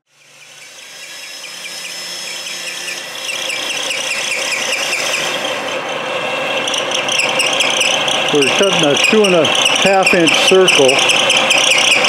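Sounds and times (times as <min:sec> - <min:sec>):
milling machine cutting metal: 0:00.1 - 0:12.0.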